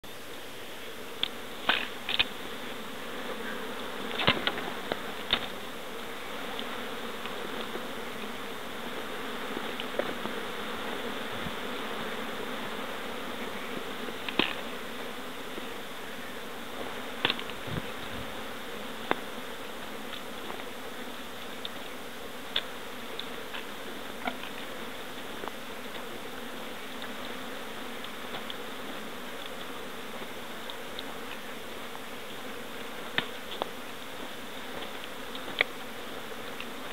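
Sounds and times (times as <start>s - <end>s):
insects buzzing: 0.1s - 36.9s.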